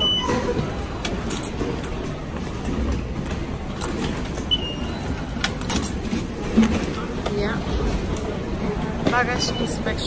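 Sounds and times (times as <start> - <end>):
station concourse hubbub: 0.0 - 10.0.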